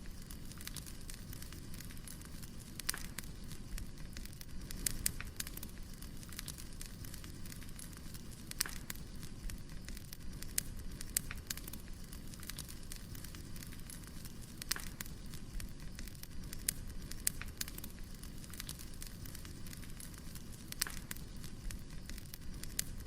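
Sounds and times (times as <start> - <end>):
low rumble of burning logs: 0.0 - 23.0
wood fire crackling: 0.0 - 23.0.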